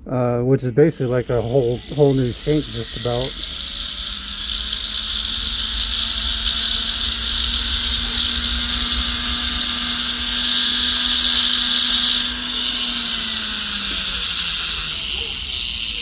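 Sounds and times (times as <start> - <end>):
polishing wheel grinding hiss: 0.8 - 16.0
rotary tool motor whine: 0.8 - 16.0.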